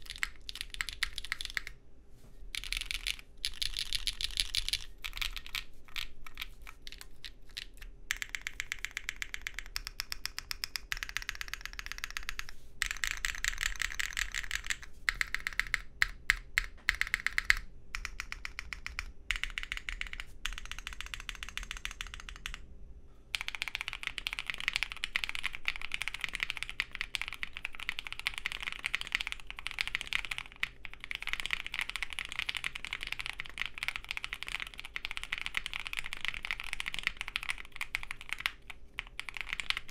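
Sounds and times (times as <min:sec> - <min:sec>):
mechanical keyboard typing: 0:00.0 - 0:01.8, 0:02.5 - 0:22.6, 0:23.4 - 0:39.9.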